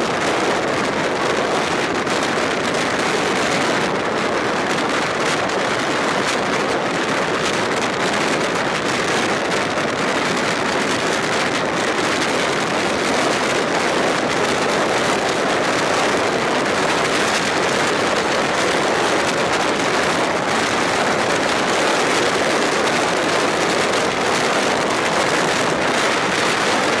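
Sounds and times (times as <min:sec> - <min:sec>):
train wheels rolling on rails: 0:00.0 - 0:27.0
wind rushing on microphone: 0:00.0 - 0:27.0.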